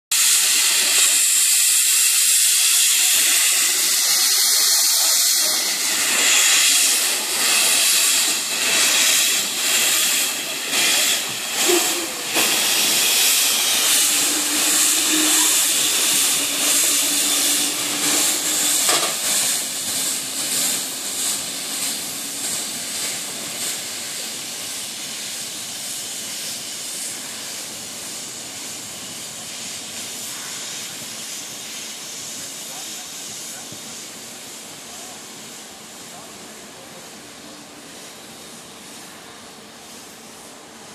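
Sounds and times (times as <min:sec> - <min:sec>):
steam locomotive exhaust chuffs: 0:00.1 - 0:40.7
steam hissing from cylinders: 0:00.1 - 0:40.9.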